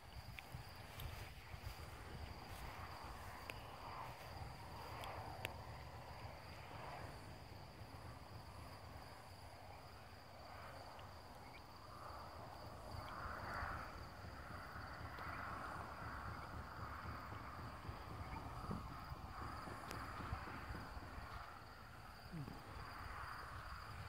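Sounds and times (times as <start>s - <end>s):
crickets chirping: 0.0s - 24.0s
soft pulsing noise: 0.0s - 24.0s.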